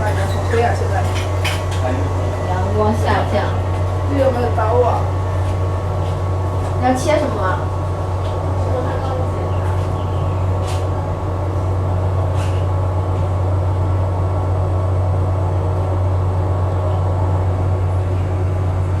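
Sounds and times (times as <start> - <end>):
loud low machine hum: 0.0 - 19.0.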